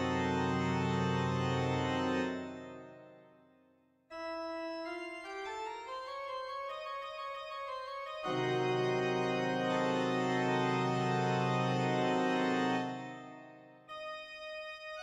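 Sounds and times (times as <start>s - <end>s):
organ music: 0.0s - 2.8s, 4.1s - 14.9s.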